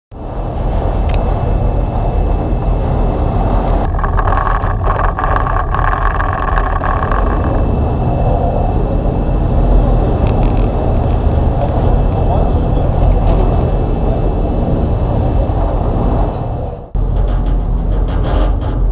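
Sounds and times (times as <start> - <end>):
boat engine drone: 0.1 - 18.9
higher hum: 0.2 - 18.1.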